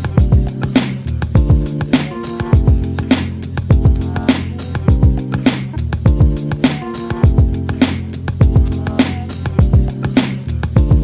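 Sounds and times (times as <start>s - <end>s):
background music with kick drums: 0.0s - 11.0s.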